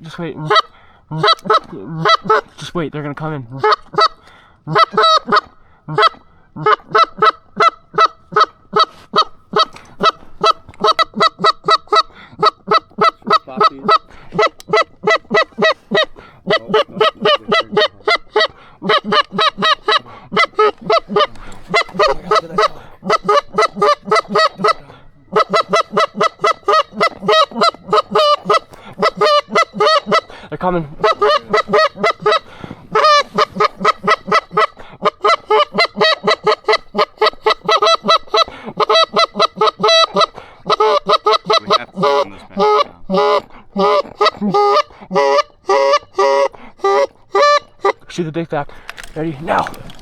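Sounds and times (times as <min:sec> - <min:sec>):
goose call honks and clucks: 0:00.0 - 0:50.0.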